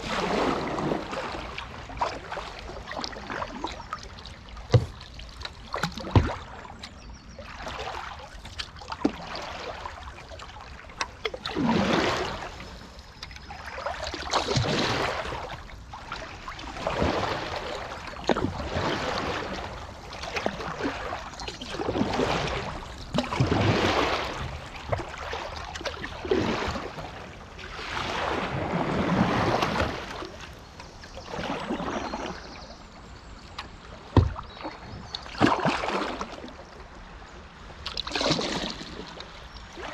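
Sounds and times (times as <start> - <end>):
flowing river: 0.0 - 39.9
paddle splashing in water: 0.0 - 39.9.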